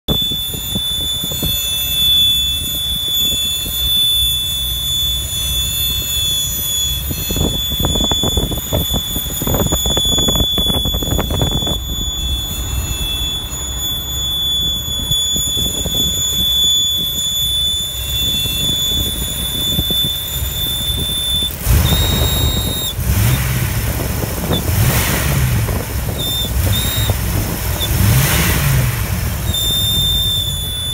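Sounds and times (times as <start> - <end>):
high-pitched whistle: 0.0 - 30.9
car engine idling: 0.3 - 30.9.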